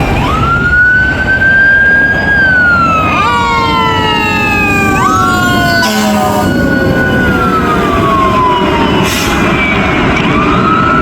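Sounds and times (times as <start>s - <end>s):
fire engine sirens wailing: 0.0s - 11.0s.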